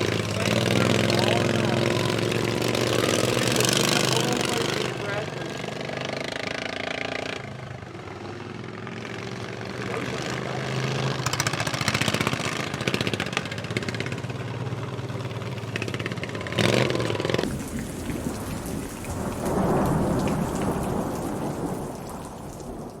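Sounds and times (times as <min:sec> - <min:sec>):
racing lawn mower engines: 0:00.0 - 0:22.1.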